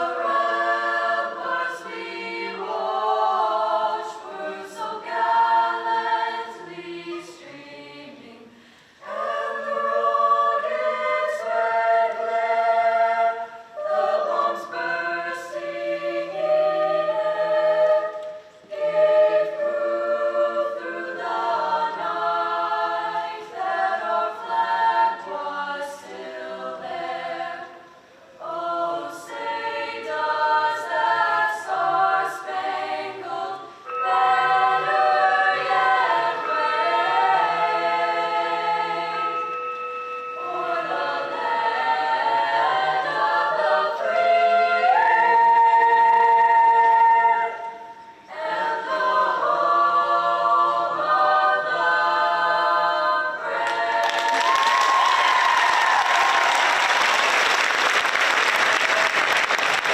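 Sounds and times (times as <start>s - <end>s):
a cappella group singing: 0.0s - 56.8s.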